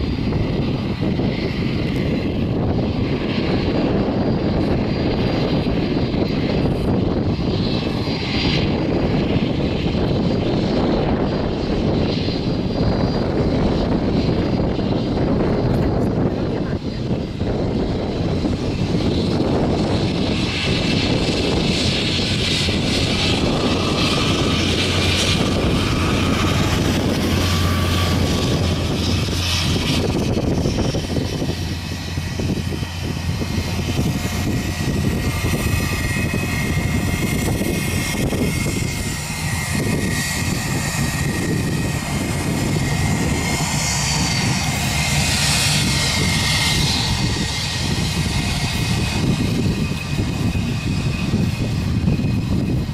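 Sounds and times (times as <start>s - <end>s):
airliner jet engines taxiing: 0.0s - 52.9s
high engine whine: 0.0s - 52.9s.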